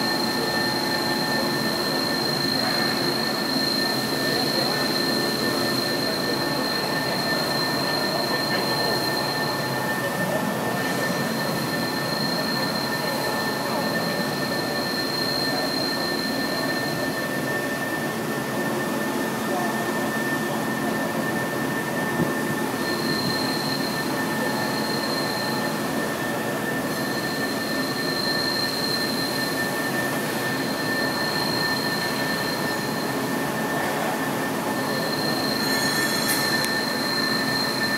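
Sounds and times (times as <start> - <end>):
machining centre whirring: 0.0 - 37.9.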